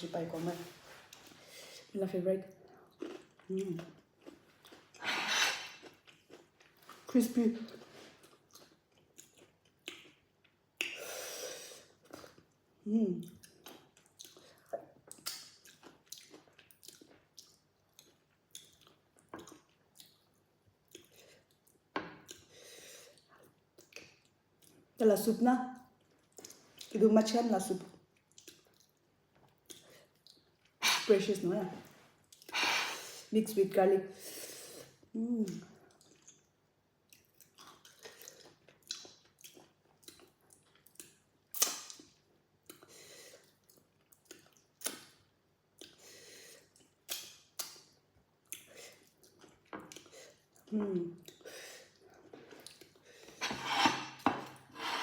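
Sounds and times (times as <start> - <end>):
person chewing food: 2.6 - 11.1, 11.8 - 24.9, 25.8 - 26.9, 28.0 - 30.8, 32.2 - 32.6, 34.8 - 55.0.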